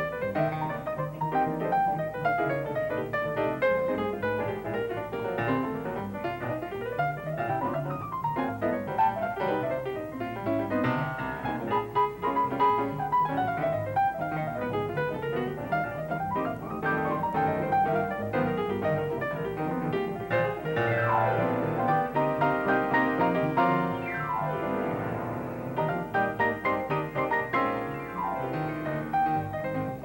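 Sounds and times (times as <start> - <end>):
jazz piano runs: 0.0 - 30.0.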